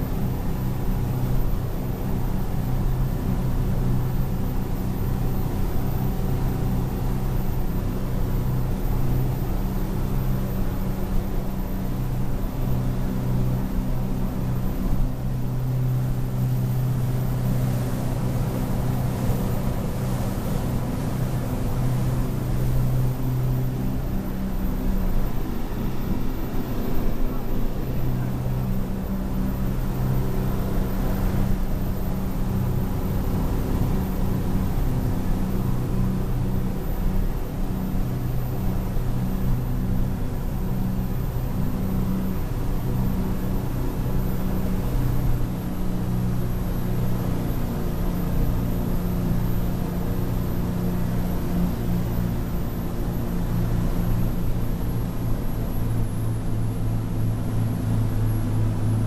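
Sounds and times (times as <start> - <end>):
boat diesel engine droning: 0.0 - 59.0.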